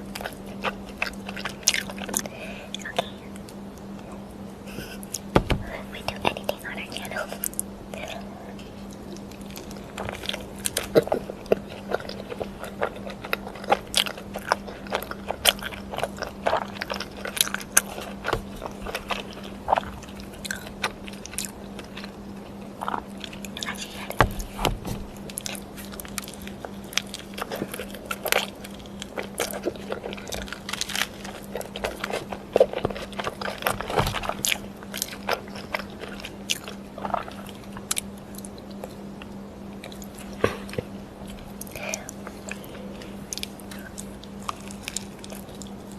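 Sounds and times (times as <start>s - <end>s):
crunching bites and chewing: 0.0s - 45.9s
faint steady hum: 0.0s - 45.9s.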